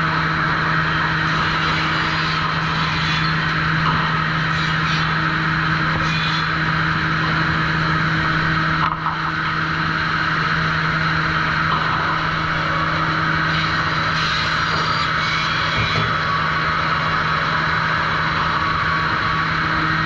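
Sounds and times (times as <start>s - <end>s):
sawmill machinery humming: 0.0s - 20.0s.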